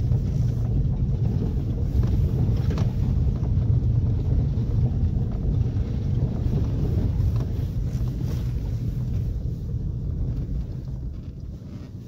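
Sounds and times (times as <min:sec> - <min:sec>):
vehicle rumbling on dirt track: 0:00.0 - 0:12.0
wind noise on microphone: 0:00.0 - 0:12.0.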